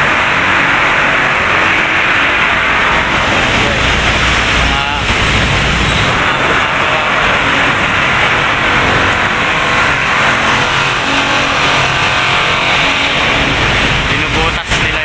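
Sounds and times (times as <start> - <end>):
road traffic passing close by: 0.0 - 15.0.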